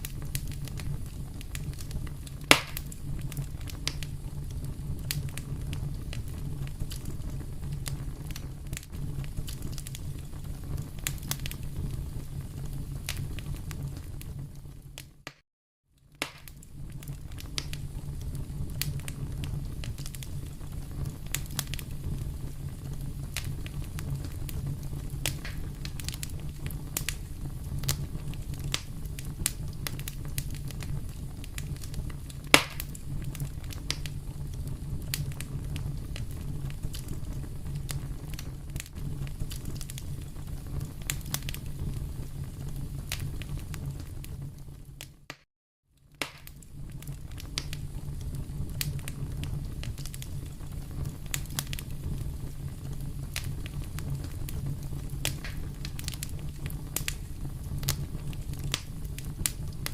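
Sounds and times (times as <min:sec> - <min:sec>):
low rumble of flames: 0:00.0 - 0:15.3, 0:16.0 - 0:45.4, 0:46.0 - 0:59.9
fire crackles and pops: 0:00.0 - 0:15.4, 0:16.0 - 0:59.9.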